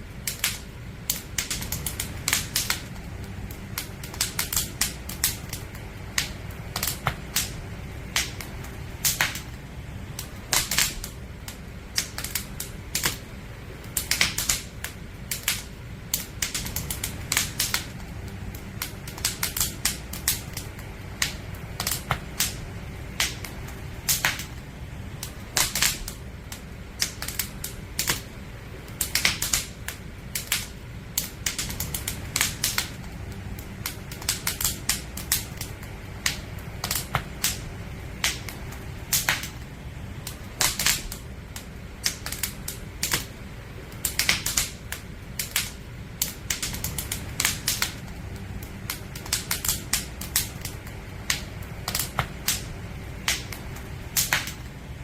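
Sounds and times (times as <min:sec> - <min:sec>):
campfire crackling and popping: 0:00.0 - 0:55.0
low fire rumble: 0:00.0 - 0:55.0.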